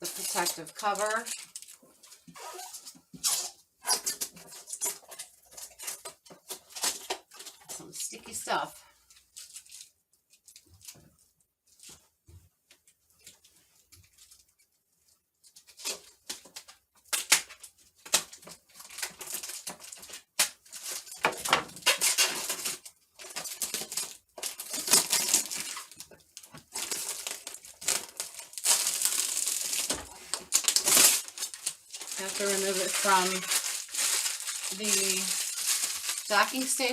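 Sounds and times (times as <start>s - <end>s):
plastic film peeling and crinkling: 0.0s - 8.2s, 9.0s - 12.0s, 12.7s - 36.9s.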